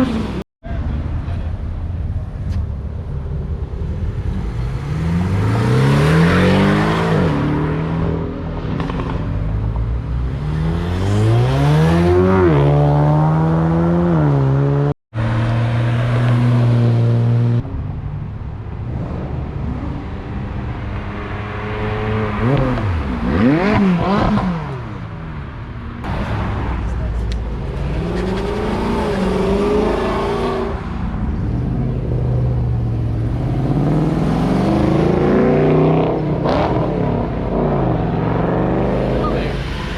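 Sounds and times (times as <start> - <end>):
car engines revving and accelerating: 0.0 - 39.9.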